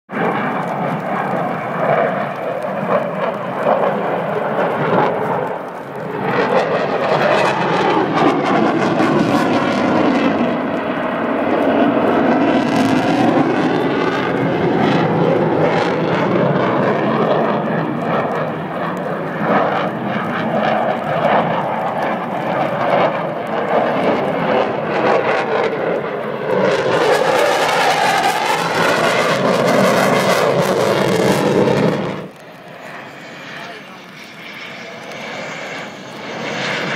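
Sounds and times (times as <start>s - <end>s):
military jet flying past: 0.1s - 36.9s.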